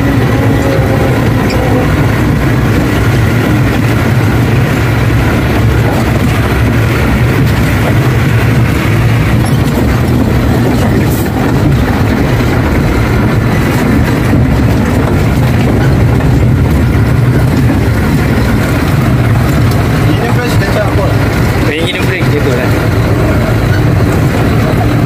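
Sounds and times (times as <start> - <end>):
truck diesel engine drone: 0.0 - 25.0.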